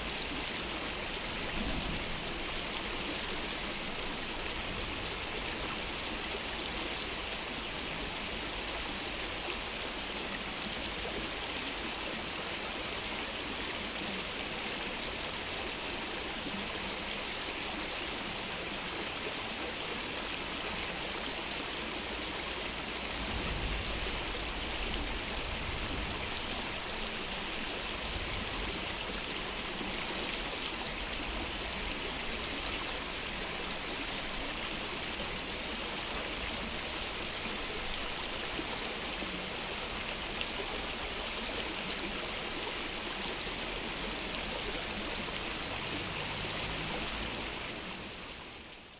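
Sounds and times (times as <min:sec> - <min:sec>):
stream flowing: 0:00.0 - 0:48.9.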